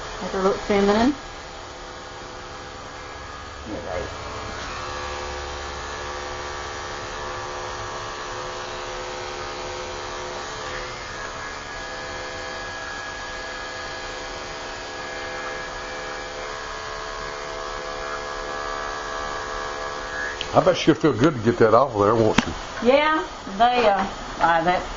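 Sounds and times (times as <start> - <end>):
electric clippers humming: 0.0 - 24.9.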